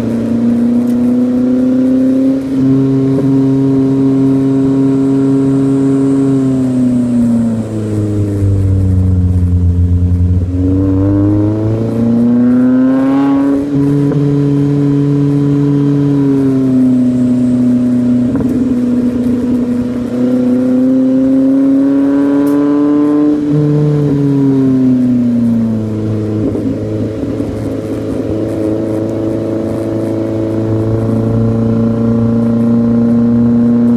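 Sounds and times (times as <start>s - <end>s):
car engine exhaust revving: 0.0s - 33.9s.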